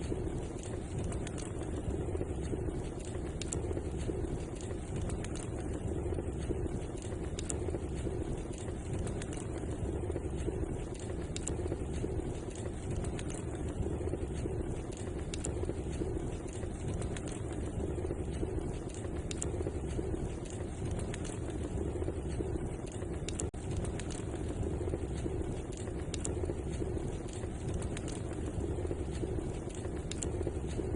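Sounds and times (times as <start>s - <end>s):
fire crackles and pops: 0.0s - 30.9s
fire roaring in fireplace: 0.0s - 30.9s.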